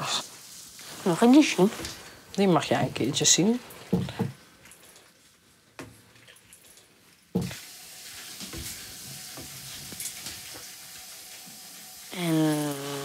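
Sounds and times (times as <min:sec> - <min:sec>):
food sizzling: 0:00.0 - 0:06.2, 0:06.8 - 0:13.0.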